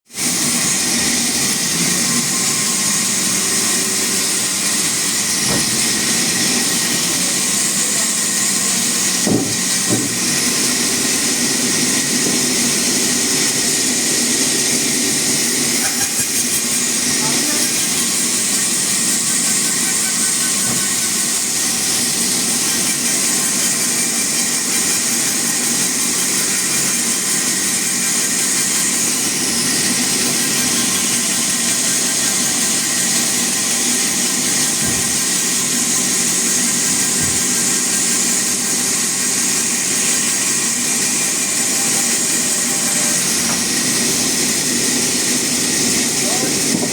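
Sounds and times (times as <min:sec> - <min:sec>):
saw cutting through log: 0:00.0 - 0:46.9
sawmill machine hum: 0:00.1 - 0:46.9.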